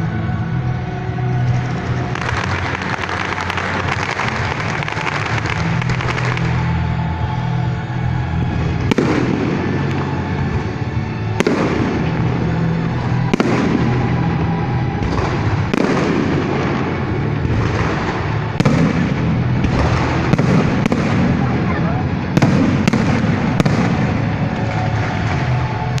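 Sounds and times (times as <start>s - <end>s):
low drone: 0.0s - 26.0s
fireworks bangs with crackling: 1.3s - 26.0s.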